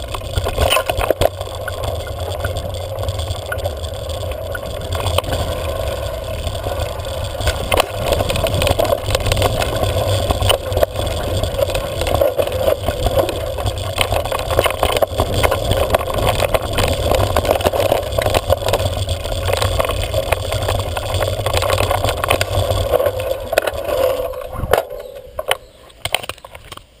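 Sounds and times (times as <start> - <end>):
wind on microphone: 0.0 - 26.1
bike clicks and rattles: 0.0 - 27.0
road noise: 0.0 - 27.0.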